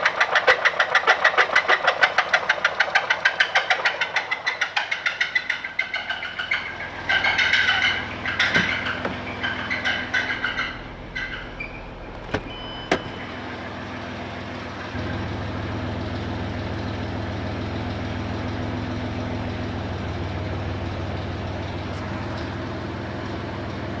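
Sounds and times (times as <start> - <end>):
car engine running with knock: 0.0 - 11.4, 12.1 - 24.0.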